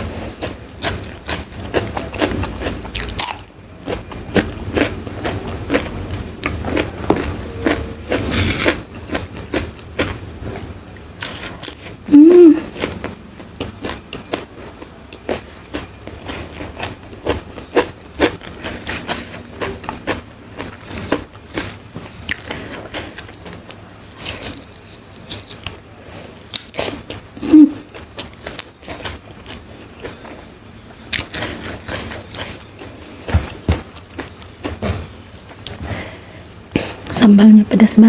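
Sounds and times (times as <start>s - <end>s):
chewing crisp food: 0.0s - 12.0s, 12.6s - 37.1s.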